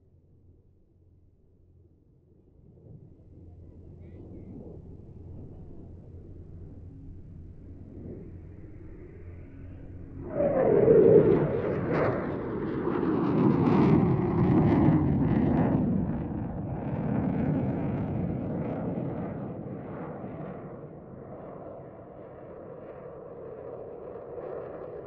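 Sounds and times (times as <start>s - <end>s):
jet flying overhead: 2.7s - 25.0s.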